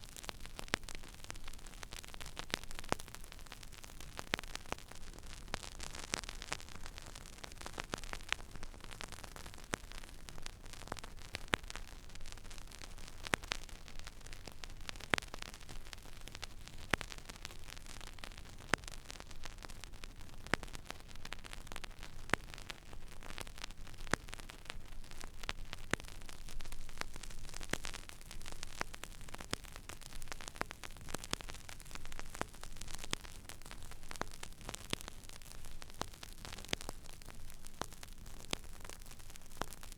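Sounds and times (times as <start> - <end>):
vinyl crackles and pops: 0.0 - 39.9
vinyl surface hiss: 0.0 - 39.9.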